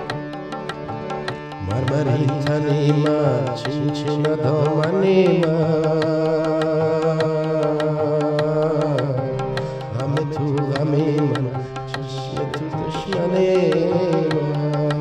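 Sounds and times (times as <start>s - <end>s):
backing music with percussion beat: 0.0s - 15.0s
man singing: 1.6s - 15.0s.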